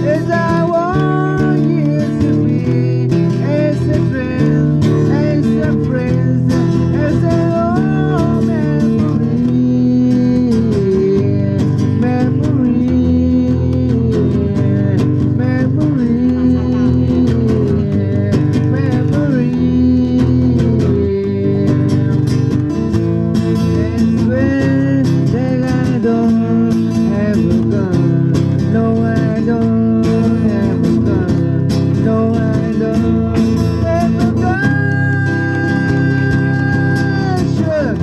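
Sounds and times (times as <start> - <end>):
bass guitar: 0.0 - 38.0
electric guitar bending notes: 0.0 - 38.0.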